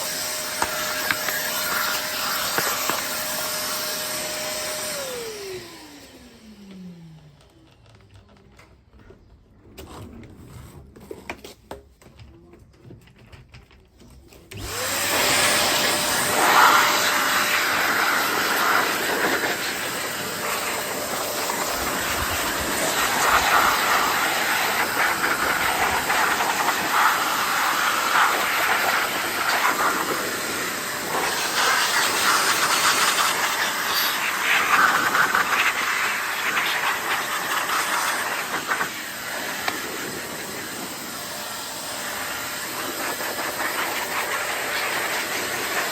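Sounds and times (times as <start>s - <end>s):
vacuum cleaner running: 0.0s - 8.0s, 14.5s - 45.9s.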